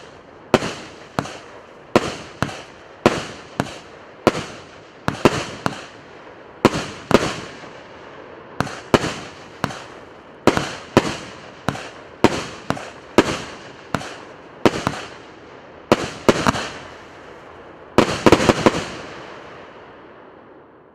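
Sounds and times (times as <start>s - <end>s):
fireworks bangs: 0.0s - 19.9s
fireworks crackle: 0.0s - 20.0s.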